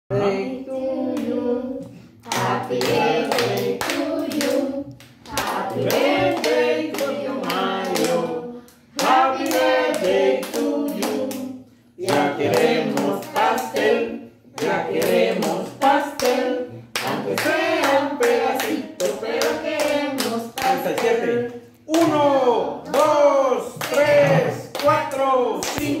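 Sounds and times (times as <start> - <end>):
group singing a celebration song: 0.1 - 26.0
people clapping hands: 2.3 - 13.9, 14.6 - 16.4, 17.0 - 26.0.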